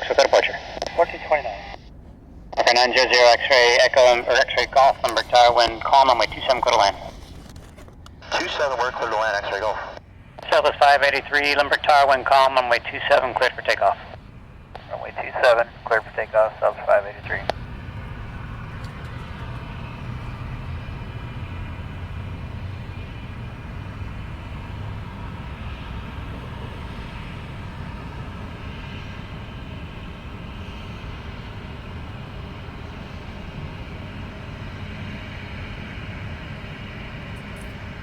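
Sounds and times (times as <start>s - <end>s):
jet engines at takeoff: 0.0s - 38.0s.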